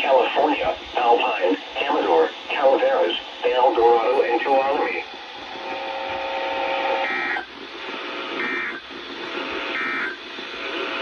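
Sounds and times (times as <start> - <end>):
radio hiss: 0.0 - 11.0.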